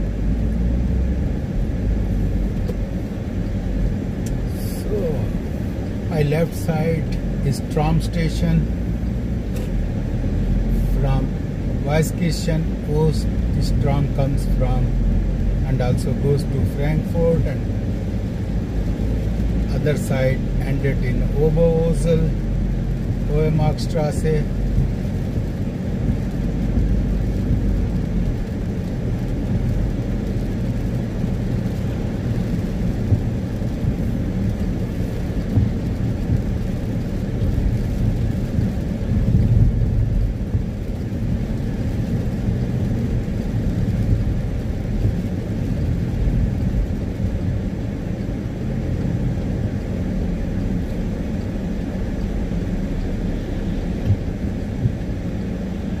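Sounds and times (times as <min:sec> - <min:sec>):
engine hum: 0:00.0 - 0:56.0
tyre noise on wet road: 0:00.0 - 0:56.0.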